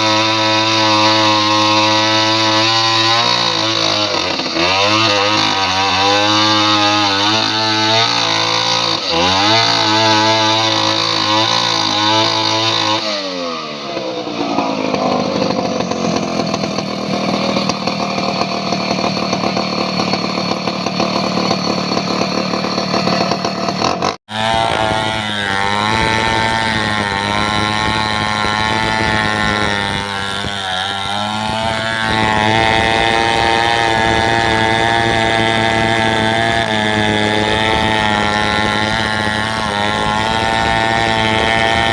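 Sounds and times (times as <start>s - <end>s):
chainsaw running at high revs: 0.0s - 41.9s.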